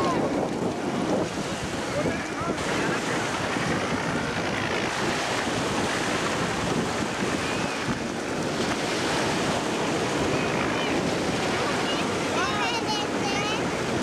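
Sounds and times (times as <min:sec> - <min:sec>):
powerboat engines: 0:00.0 - 0:14.0
water rushing: 0:00.0 - 0:14.0
wind on microphone: 0:00.0 - 0:14.0.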